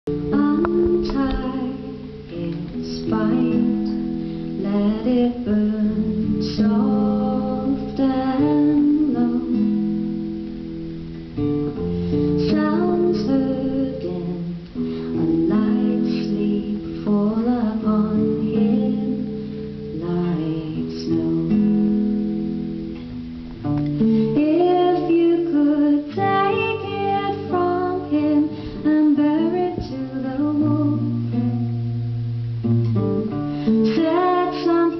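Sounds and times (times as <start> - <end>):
acoustic guitar: 0.0 - 34.9.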